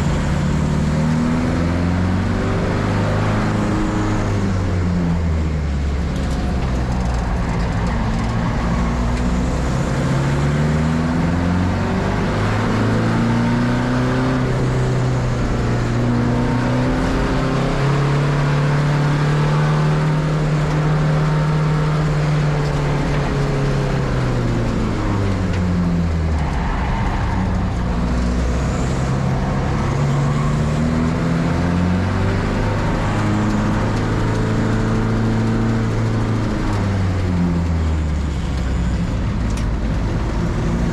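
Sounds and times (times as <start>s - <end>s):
race car engine shifting gears: 2.2s - 40.9s.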